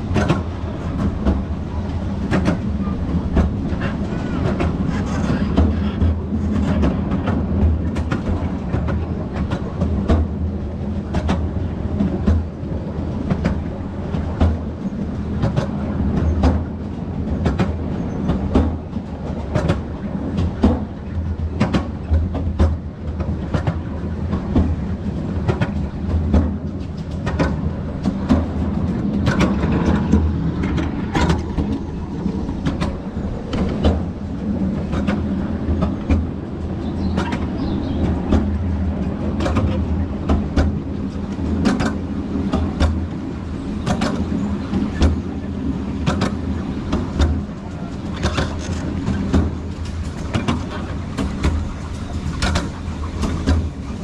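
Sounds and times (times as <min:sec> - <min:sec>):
train carriages rumbling: 0:00.0 - 0:54.0
wheels clicking over rail joints: 0:00.0 - 0:54.0.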